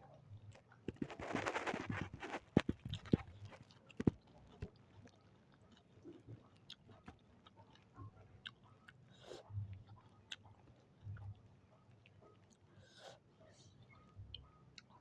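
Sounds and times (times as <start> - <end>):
chewing food: 0.5 - 12.8, 13.8 - 15.0.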